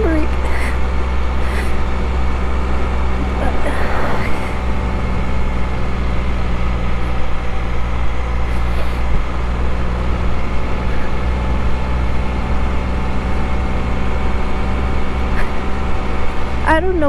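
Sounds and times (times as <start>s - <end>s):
engine running steadily: 0.0s - 17.0s
wind and road noise: 0.0s - 17.0s.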